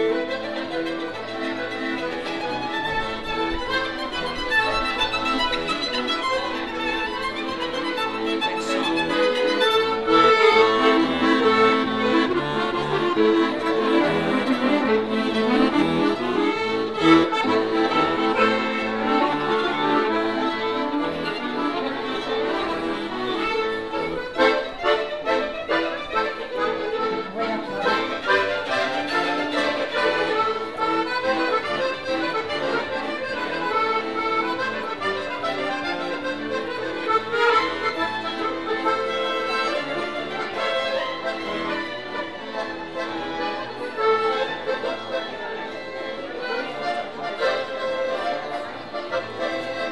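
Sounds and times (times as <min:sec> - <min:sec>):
accordion: 0:00.0 - 0:49.9
violin: 0:00.0 - 0:49.9.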